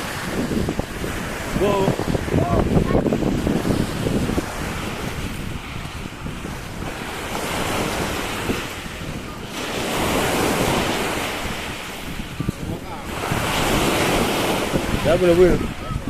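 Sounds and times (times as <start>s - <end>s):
surf breaking on a beach: 0.0s - 16.0s
wind buffeting microphone: 0.0s - 16.0s.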